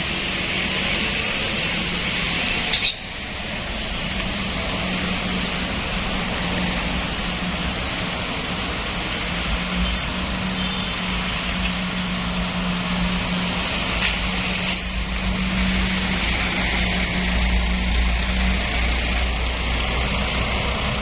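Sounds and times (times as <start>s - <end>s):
road and wind noise: 0.0s - 21.0s
vehicle engine humming: 0.0s - 21.0s.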